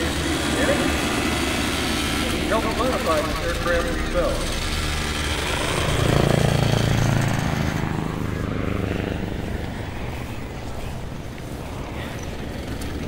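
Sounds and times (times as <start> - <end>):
helicopter passing overhead: 0.0 - 13.0.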